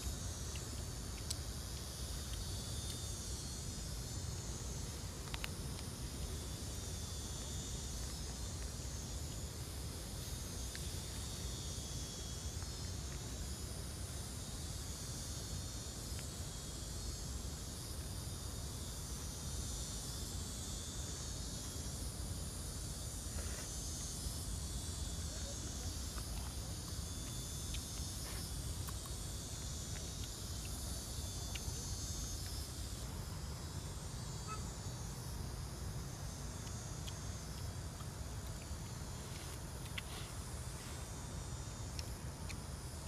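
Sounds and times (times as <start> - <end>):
high hiss: 0.0 - 43.0.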